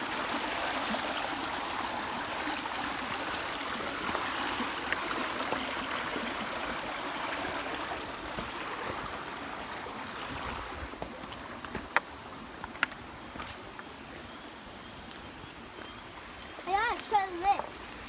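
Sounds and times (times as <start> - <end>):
waterfall and stream rushing: 0.0 - 18.0.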